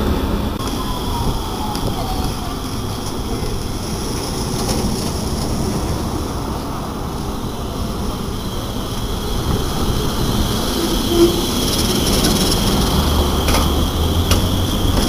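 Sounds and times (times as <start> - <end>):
streetcar motors rumbling: 0.0 - 15.0
streetcar wheels on rails: 0.0 - 15.0.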